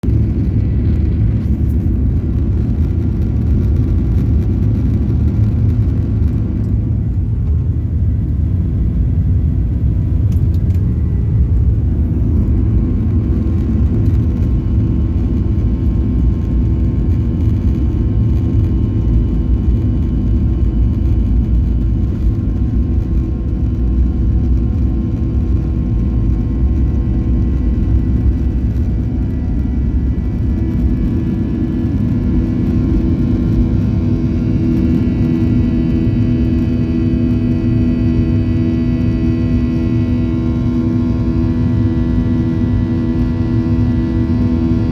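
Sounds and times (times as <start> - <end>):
jet engines rumbling: 0.0 - 44.9
faint whining tones: 0.1 - 44.9.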